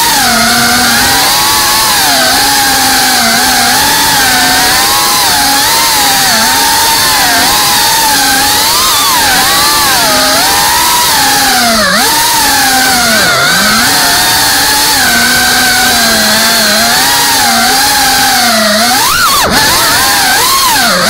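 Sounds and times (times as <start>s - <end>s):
quadcopter motors buzzing: 0.0s - 21.0s.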